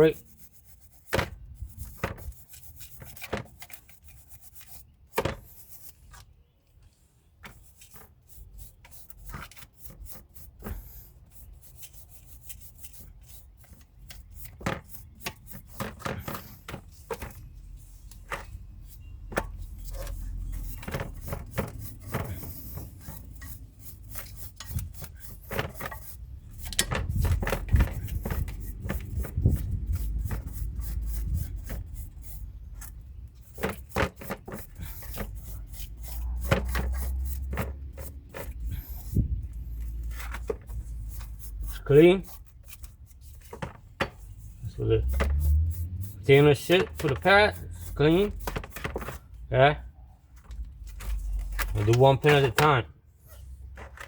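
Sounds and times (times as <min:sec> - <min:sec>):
brush scrubbing metal: 0:00.0 - 0:06.2, 0:07.4 - 0:49.3.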